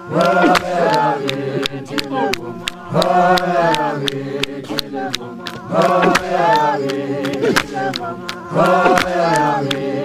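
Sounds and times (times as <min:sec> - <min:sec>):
group singing: 0:00.0 - 0:10.0
sharp handclaps: 0:00.0 - 0:10.0.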